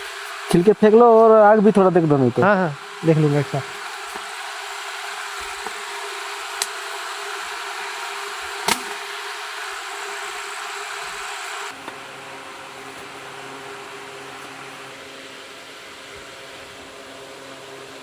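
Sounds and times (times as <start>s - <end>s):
electric fan whirring: 0.0s - 18.0s.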